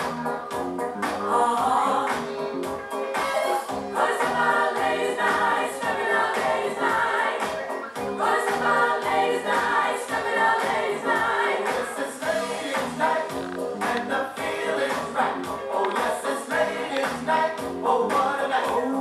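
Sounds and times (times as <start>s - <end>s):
steady music beat: 0.0s - 18.9s
group of voices singing: 1.2s - 2.5s, 3.4s - 19.0s.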